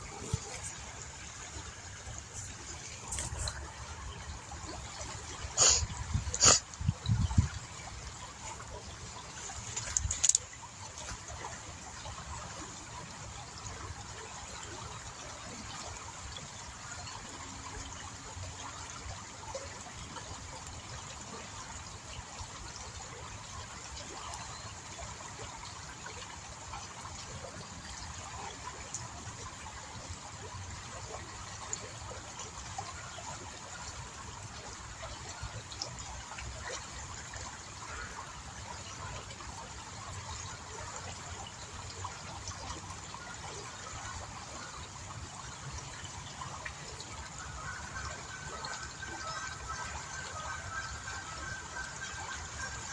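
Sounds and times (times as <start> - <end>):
small stream trickling: 0.0 - 52.9.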